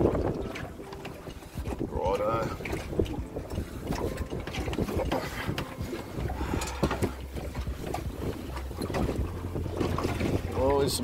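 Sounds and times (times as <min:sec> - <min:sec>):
boat and gear knocking and rattling: 0:00.0 - 0:11.0
wind buffeting the microphone: 0:00.0 - 0:11.0.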